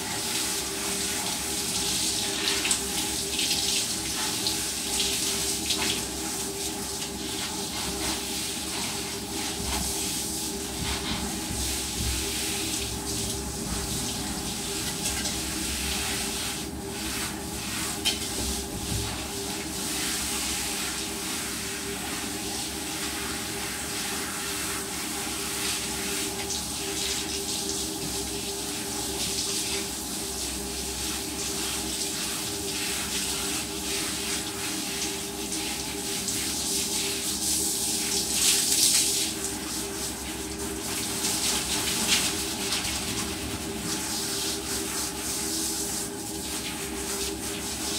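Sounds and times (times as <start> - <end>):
shower water spraying and splashing: 0.0 - 47.9.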